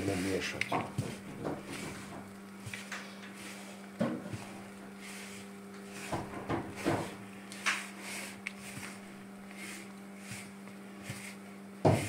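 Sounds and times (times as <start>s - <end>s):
dough stirred in a bowl: 0.0s - 12.0s
steady low hum: 0.0s - 12.0s.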